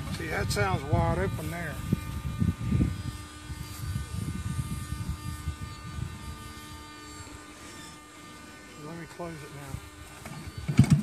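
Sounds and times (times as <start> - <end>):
servos buzzing: 0.0 - 11.0.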